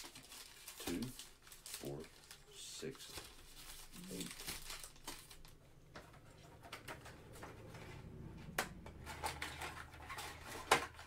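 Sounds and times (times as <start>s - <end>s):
card packs rustling: 0.0s - 11.0s.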